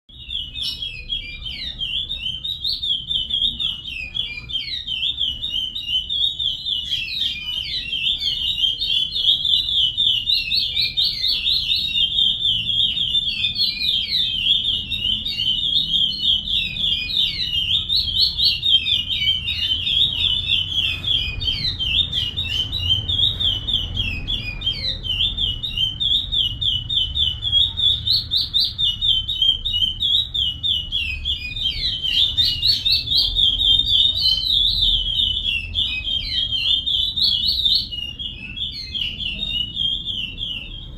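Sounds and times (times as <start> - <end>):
finch singing high whistles: 0.1 - 40.9.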